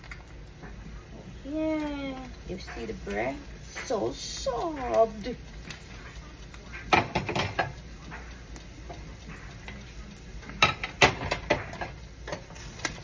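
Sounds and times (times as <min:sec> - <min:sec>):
utensils and cookware clicking: 0:01.4 - 0:13.0.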